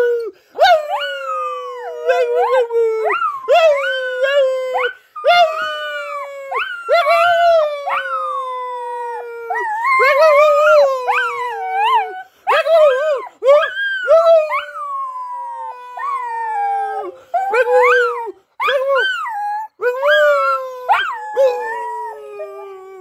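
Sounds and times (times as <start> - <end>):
dog howling: 0.0 - 23.0
man howling: 0.0 - 23.0.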